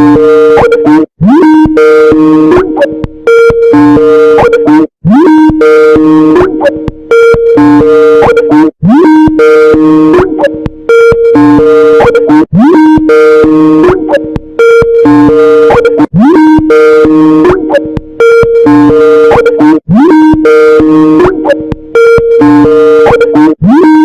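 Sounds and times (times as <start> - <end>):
loud bass-boosted ringtone: 0.0 - 24.0.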